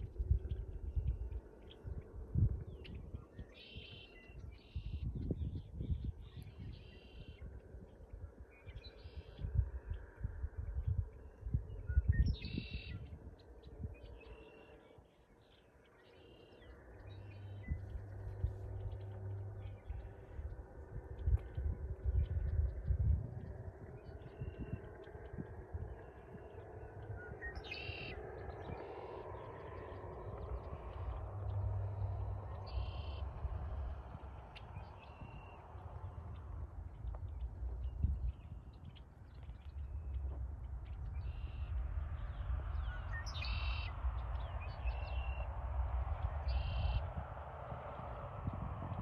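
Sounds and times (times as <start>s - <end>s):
faint low hum: 0.0s - 49.0s
low steady rumble: 0.0s - 49.0s
blackbirds singing: 0.2s - 47.1s.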